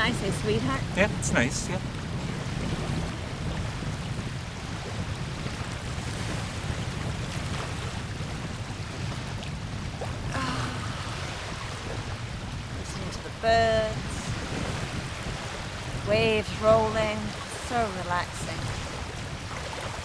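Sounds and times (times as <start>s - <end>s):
waves rolling onto shore: 0.0s - 20.0s
wind rumbling on microphone: 0.0s - 20.0s.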